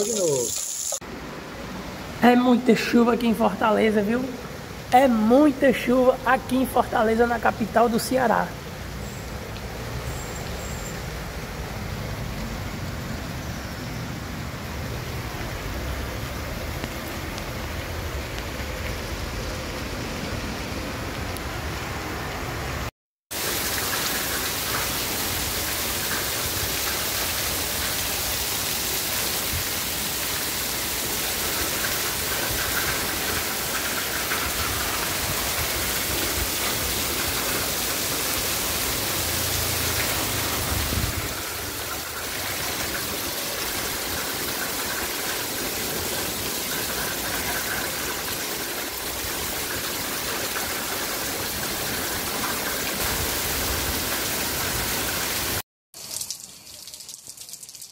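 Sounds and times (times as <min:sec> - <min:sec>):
heavy rain on street: 0:00.0 - 0:57.9.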